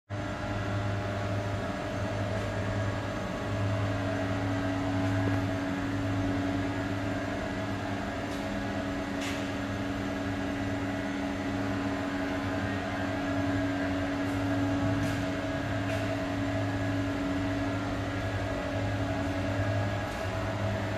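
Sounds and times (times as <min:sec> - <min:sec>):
electrical hum of switchgear: 0:00.1 - 0:20.9.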